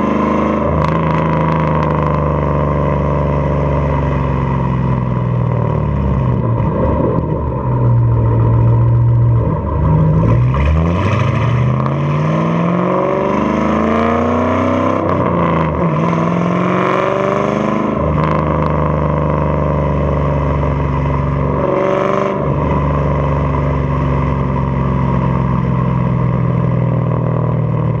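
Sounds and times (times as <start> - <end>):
car engine accelerating: 0.0 - 28.0
car engine low drone: 0.0 - 28.0.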